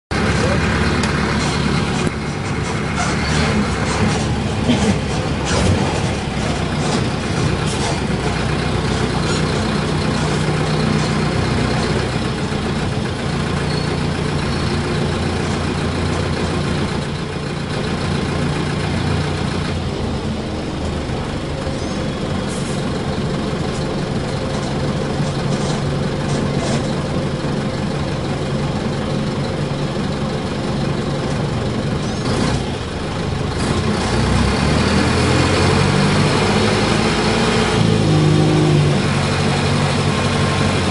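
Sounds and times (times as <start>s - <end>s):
diesel engine idling: 0.1s - 40.9s.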